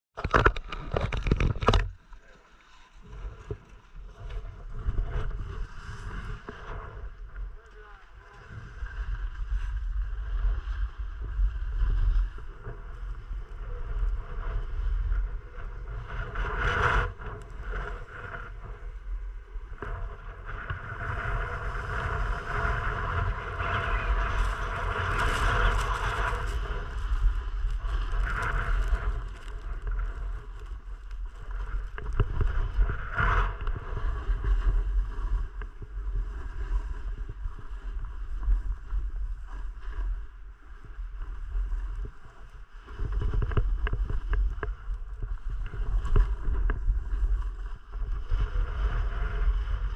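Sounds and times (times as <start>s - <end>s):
wind gusts: 0.2s - 49.9s
wind buffeting microphone: 3.0s - 49.9s.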